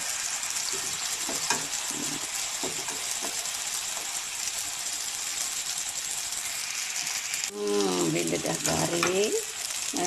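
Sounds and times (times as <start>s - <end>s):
fritters sizzling in hot oil: 0.0s - 10.0s.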